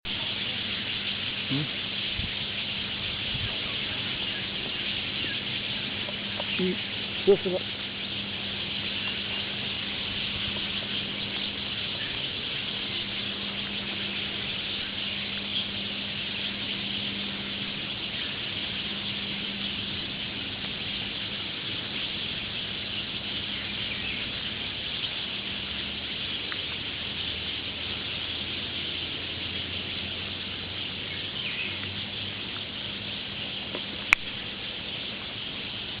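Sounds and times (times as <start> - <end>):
chorus of birds calling: 0.1 - 36.0.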